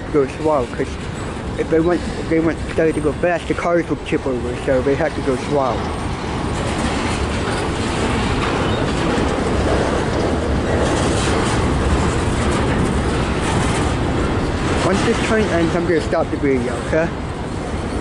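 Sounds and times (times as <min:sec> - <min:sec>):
freight train rumbling past: 0:00.0 - 0:18.0
wheels clicking over rail joints: 0:00.0 - 0:18.0.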